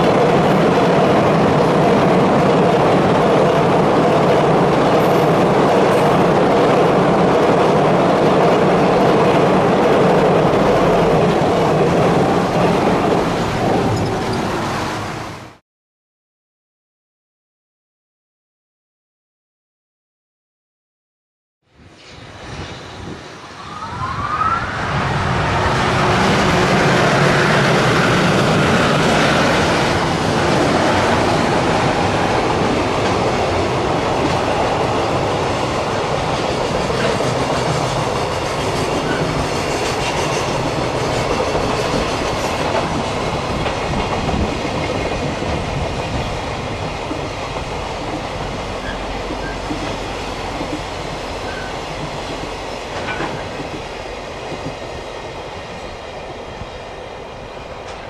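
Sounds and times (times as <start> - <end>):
freight train wheels rumbling: 0.0 - 15.6, 24.8 - 58.0.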